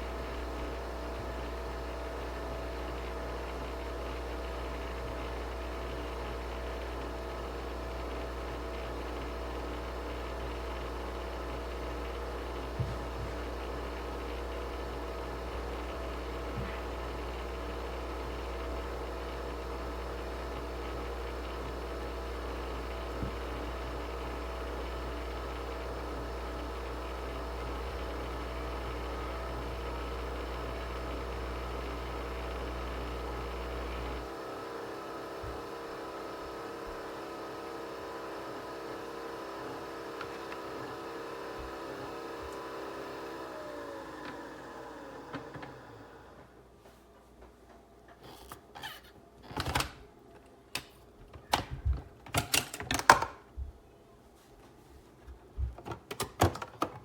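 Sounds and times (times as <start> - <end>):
small appliance motor humming: 0.0 - 46.6.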